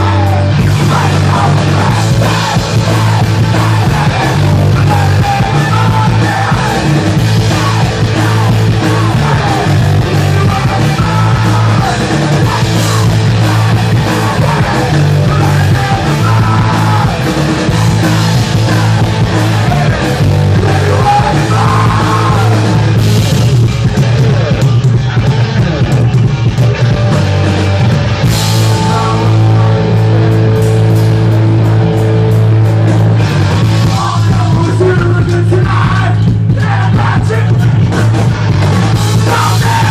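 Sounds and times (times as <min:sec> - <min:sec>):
loud amplified rock music: 0:00.0 - 0:39.9.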